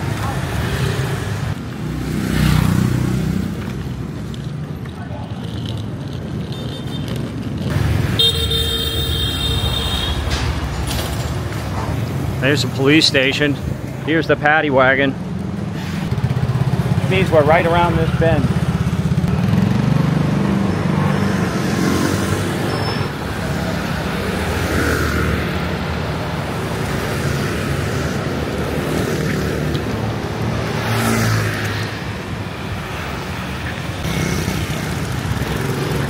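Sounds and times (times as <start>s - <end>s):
motorbike and car engines: 0.0s - 36.0s
vehicles passing: 0.0s - 36.0s.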